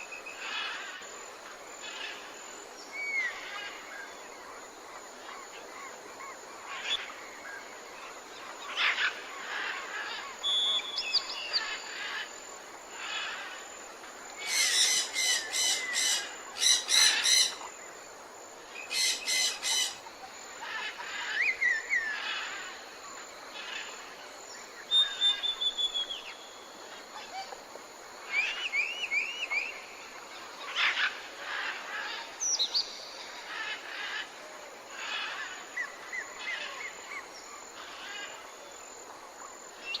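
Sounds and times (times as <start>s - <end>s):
background hiss: 0.0s - 40.0s
wild birds singing and calling: 0.0s - 40.0s.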